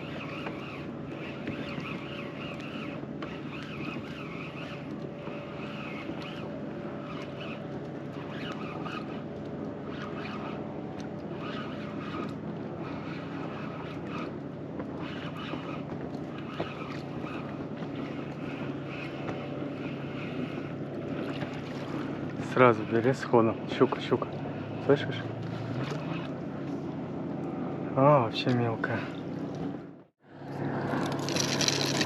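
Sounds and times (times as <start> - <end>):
boat motor humming: 0.0 - 32.0
water and rustling: 0.0 - 32.0.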